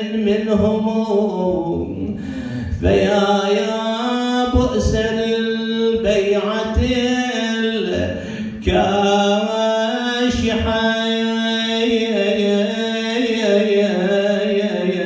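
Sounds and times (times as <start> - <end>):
solo chanting: 0.0 - 15.0.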